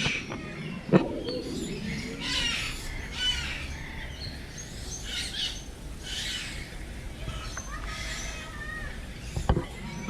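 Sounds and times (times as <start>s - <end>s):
birds making harsh calls: 0.0s - 10.0s
faint bird chirps: 0.0s - 10.0s.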